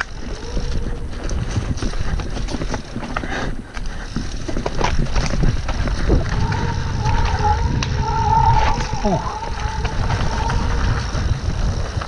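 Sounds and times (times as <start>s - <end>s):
bike rattling clicks and knocks: 0.0s - 12.0s
bike tyres rumbling over dirt: 0.0s - 12.0s.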